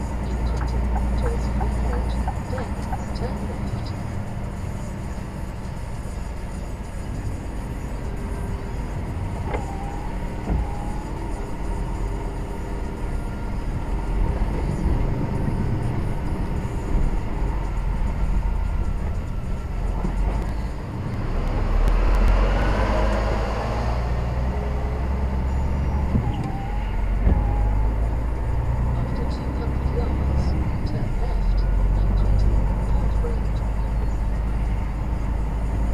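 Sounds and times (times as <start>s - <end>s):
lorry engine and road noise: 0.0s - 35.9s.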